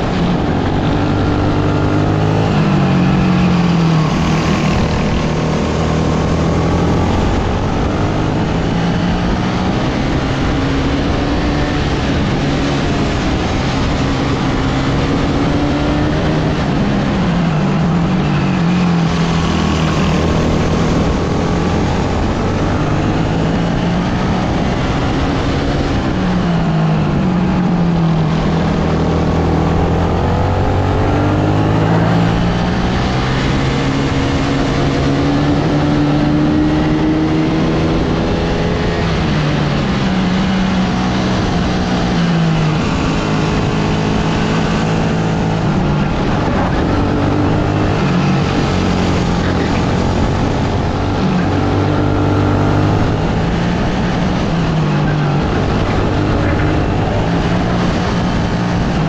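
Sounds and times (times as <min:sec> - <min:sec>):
kart engine at race pace: 0:00.0 - 0:59.0.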